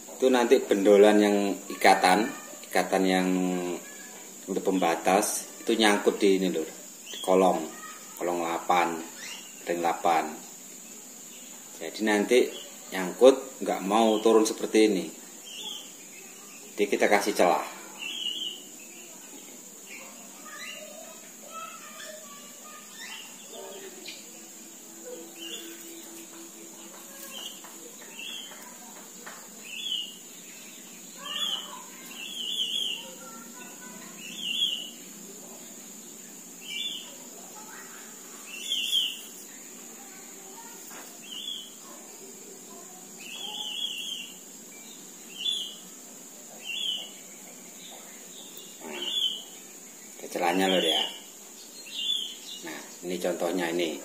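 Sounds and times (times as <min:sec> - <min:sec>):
small bird chirping: 0:00.0 - 0:54.0
steady high-pitched hiss: 0:00.0 - 0:54.0.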